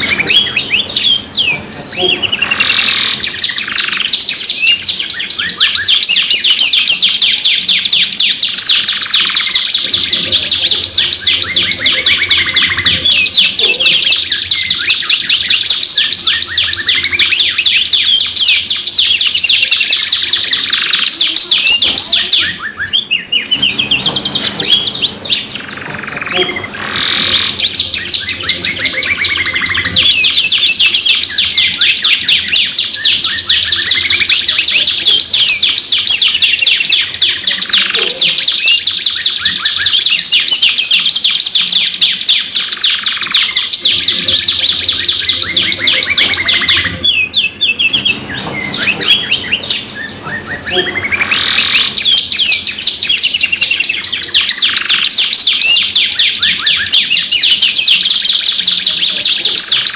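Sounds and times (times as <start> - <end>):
canaries trilling: 0.0 - 59.9.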